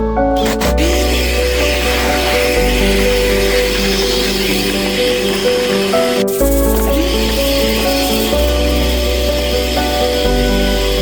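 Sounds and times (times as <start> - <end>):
synth background music: 0.0 - 11.0.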